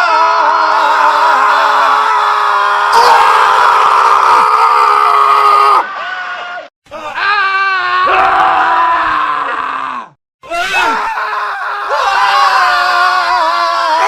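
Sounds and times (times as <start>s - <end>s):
men screaming: 0.0s - 14.0s.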